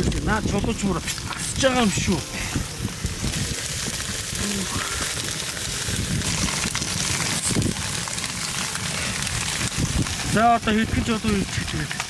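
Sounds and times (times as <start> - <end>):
low rumble: 0.0 - 11.7
steam hissing off hot rocks: 0.0 - 12.0.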